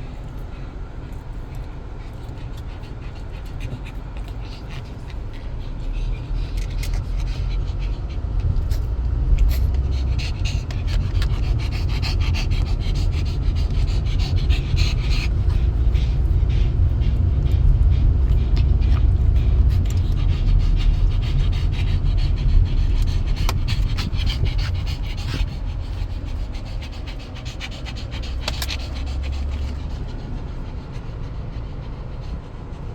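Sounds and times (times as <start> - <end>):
dog panting: 0.0 - 32.9
steady low rumble: 0.0 - 32.9.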